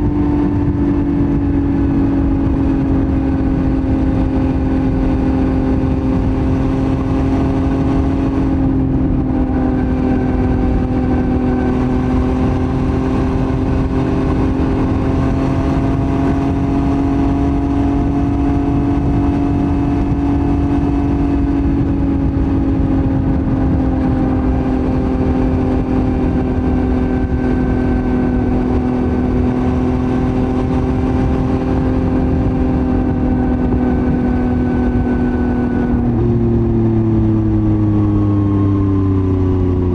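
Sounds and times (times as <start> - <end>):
motorcycle engine running: 0.0 - 39.9
steady rushing noise: 0.0 - 39.9.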